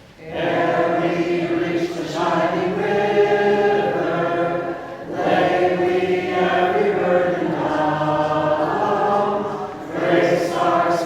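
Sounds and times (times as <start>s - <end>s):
vocal group singing: 0.2s - 11.0s.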